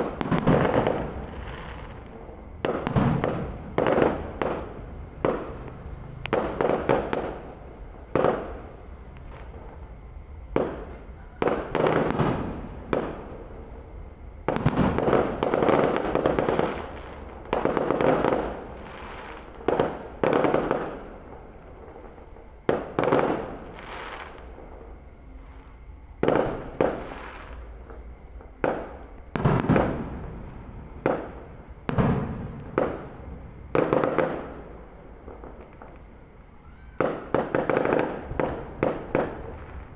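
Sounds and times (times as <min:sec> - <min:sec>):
fireworks bursting with crackling: 0:00.0 - 0:39.9.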